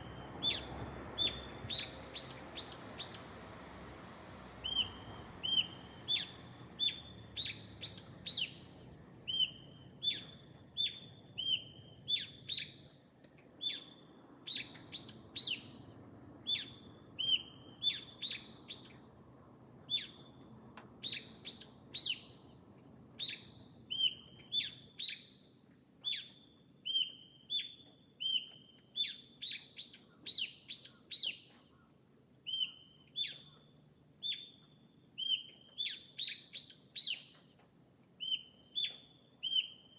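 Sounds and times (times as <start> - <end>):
small bird chirping: 0.0 - 3.4, 4.6 - 13.0, 13.6 - 19.1, 19.8 - 22.5, 23.2 - 25.4, 26.0 - 31.8, 32.5 - 37.5, 38.2 - 39.9.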